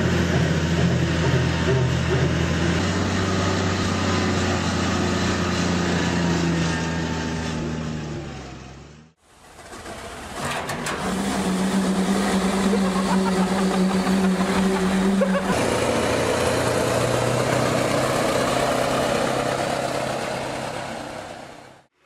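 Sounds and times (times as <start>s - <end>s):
steady pitched engine drone: 0.0s - 8.8s, 11.3s - 21.3s
rough heavy machinery engine: 0.0s - 21.8s.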